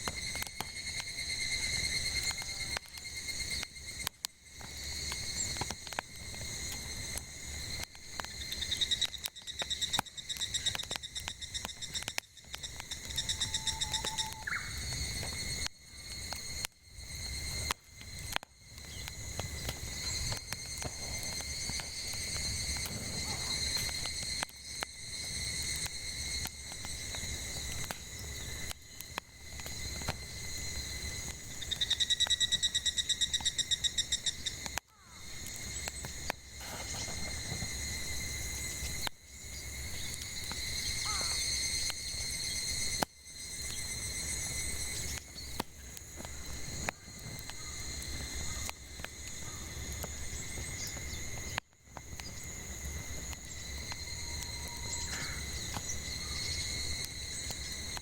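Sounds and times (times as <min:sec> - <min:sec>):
burning firewood popping and crackling: 0:00.0 - 0:58.0
cicada fast-pulsing buzz: 0:00.0 - 0:58.0
cicadas droning: 0:00.0 - 0:58.0
low rumble of fire: 0:00.0 - 0:58.0.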